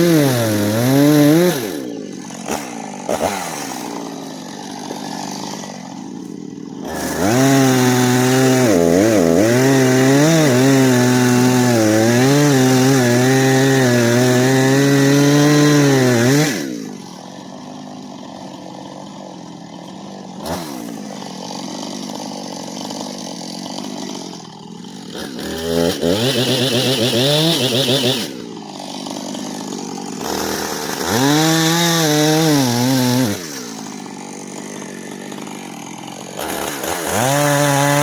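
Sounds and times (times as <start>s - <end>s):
chainsaw idling and cutting: 0.0s - 38.0s.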